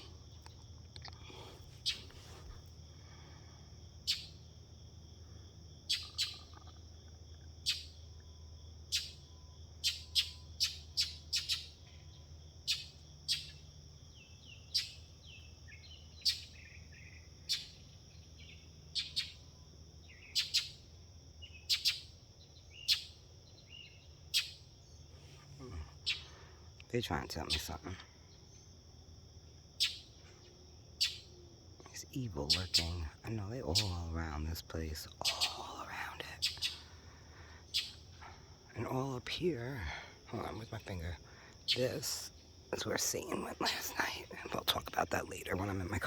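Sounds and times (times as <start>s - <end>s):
small songbirds chirping: 0.0s - 46.0s.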